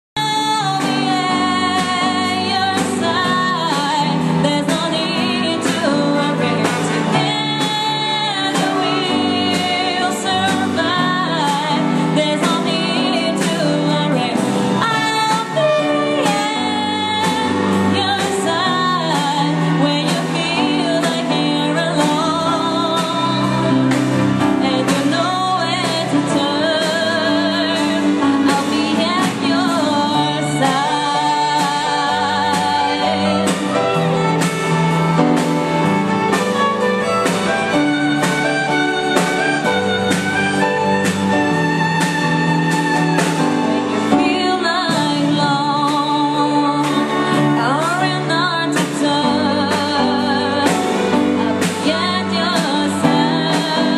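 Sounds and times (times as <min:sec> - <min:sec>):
woman singing with vibrato: 0:00.0 - 0:36.3, 0:43.7 - 0:53.9
keyboard: 0:00.2 - 0:53.9
violin: 0:00.2 - 0:53.9.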